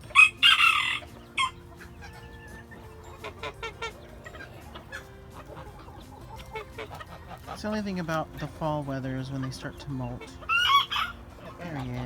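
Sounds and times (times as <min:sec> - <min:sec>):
chicken squawking: 0:00.0 - 0:08.6, 0:09.2 - 0:12.0
chickens clucking and chirping: 0:00.0 - 0:12.0.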